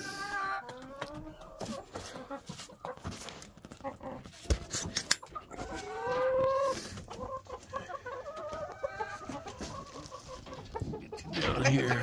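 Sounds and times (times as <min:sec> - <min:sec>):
hens clucking rapidly: 0:00.0 - 0:12.0.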